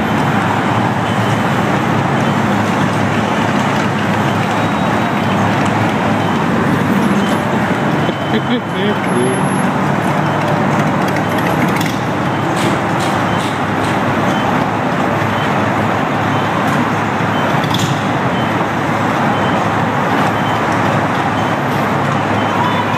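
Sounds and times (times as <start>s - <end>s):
passing cars and trucks: 0.0s - 22.9s.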